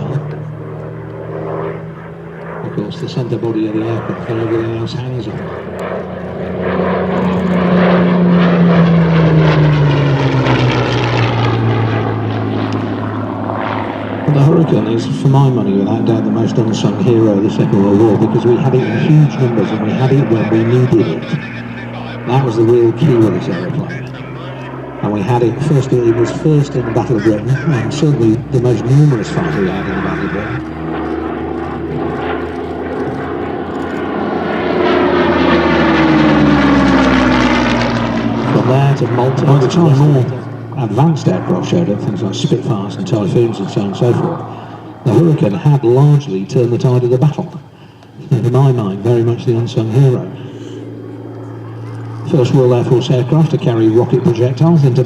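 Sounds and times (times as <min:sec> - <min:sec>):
propeller plane engine passing: 0:00.0 - 0:55.0.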